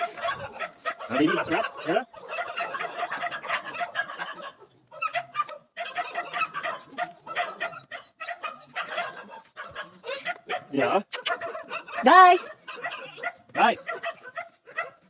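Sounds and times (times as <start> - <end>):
chickens clucking: 0.0 - 14.9.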